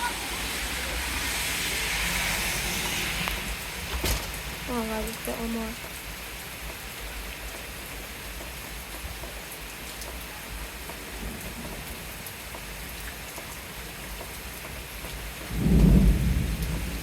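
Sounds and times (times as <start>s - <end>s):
steady rain hiss: 0.0s - 17.0s
raindrop ticks: 3.2s - 17.0s.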